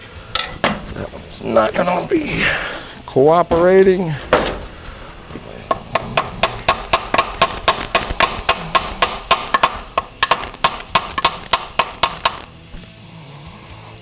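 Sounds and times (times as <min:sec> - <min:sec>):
rapid sharp metal tapping: 0:00.0 - 0:02.0, 0:03.5 - 0:12.9.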